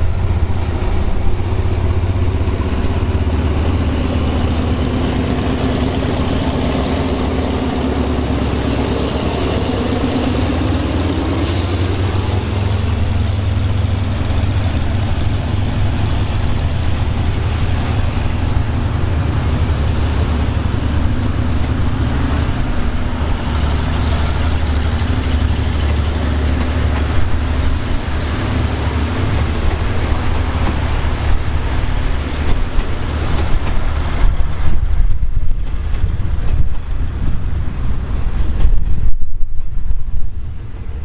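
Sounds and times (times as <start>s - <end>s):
train wheels clacking over rail joints: 0.0s - 40.3s
diesel locomotive drone: 0.0s - 41.0s.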